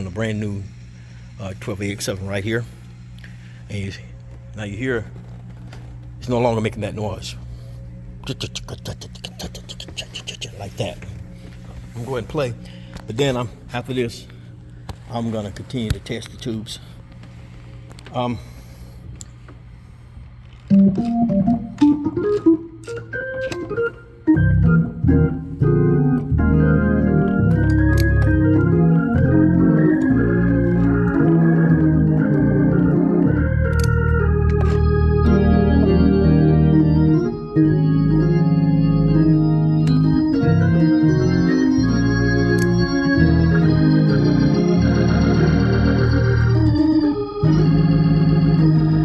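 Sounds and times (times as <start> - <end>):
organ chords: 0.0 - 16.0, 16.9 - 49.0.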